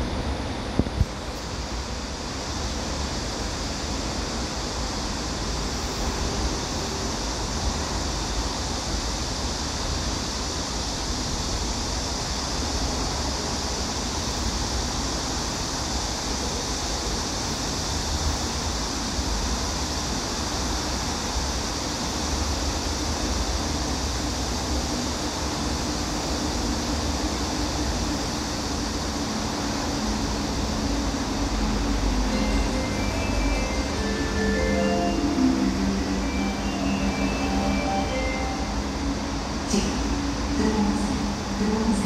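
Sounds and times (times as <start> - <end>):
rushing hiss: 0.3 - 42.0.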